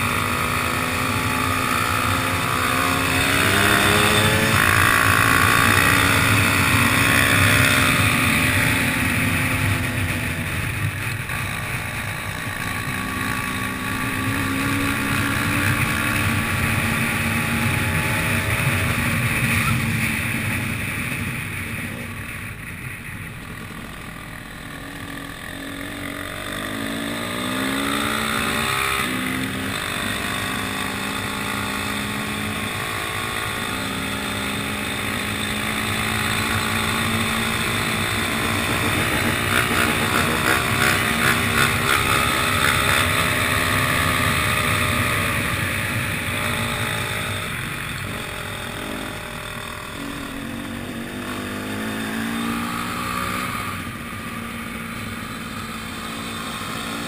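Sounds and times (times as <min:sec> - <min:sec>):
dirt bike engine revving: 0:00.0 - 0:20.6, 0:23.6 - 0:57.0.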